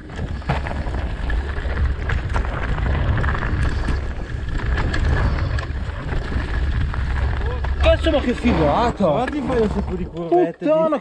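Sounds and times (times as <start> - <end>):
wind buffeting the microphone: 0.0 - 10.2
bike rolling over dirt and leaves: 0.0 - 10.3
bike clicks and rattles: 0.0 - 10.6.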